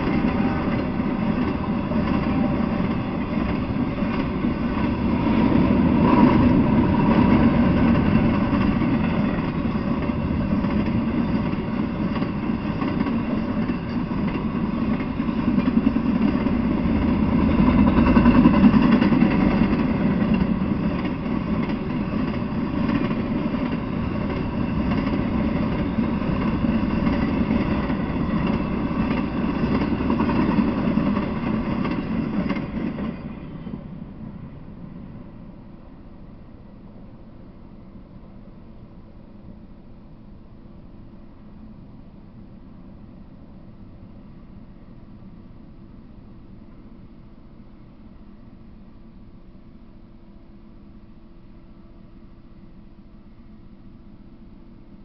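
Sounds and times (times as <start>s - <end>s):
freight train wheels rumbling: 0.0s - 48.8s.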